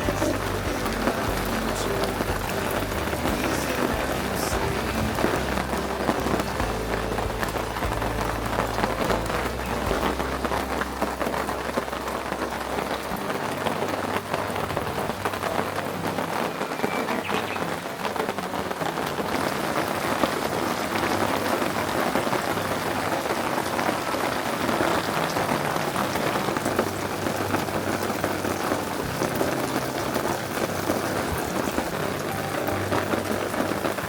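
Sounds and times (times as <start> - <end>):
heavy rain pattering on a tarp: 0.0 - 34.0.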